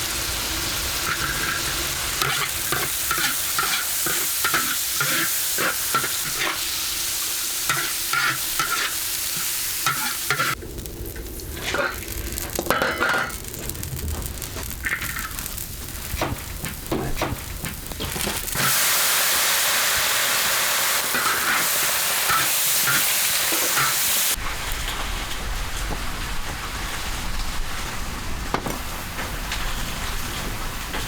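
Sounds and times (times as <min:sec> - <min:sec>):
loud steady hiss: 0:00.0 - 0:25.7.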